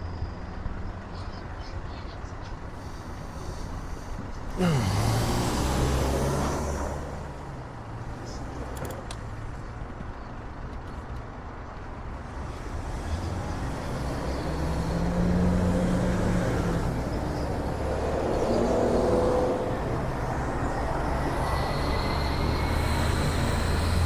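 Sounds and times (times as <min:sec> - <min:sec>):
car engine hum: 0:00.1 - 0:24.0.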